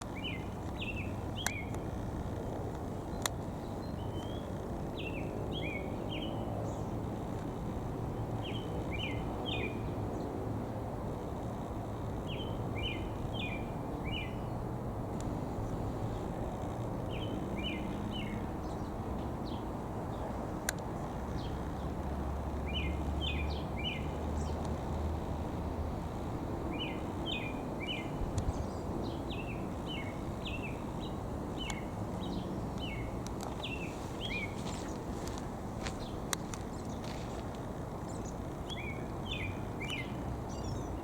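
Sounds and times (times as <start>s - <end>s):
songbird chirping: 0.0s - 41.0s.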